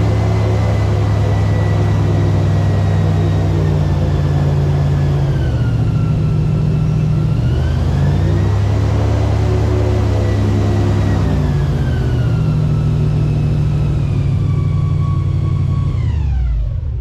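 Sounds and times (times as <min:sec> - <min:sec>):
airboat engine and propeller: 0:00.0 - 0:17.0.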